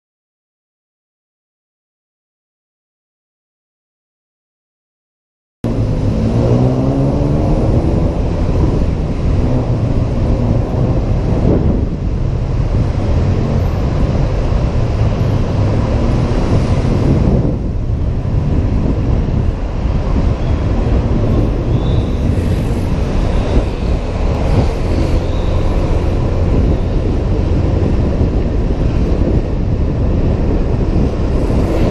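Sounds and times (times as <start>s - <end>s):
wind rushing over microphone: 5.6s - 31.9s.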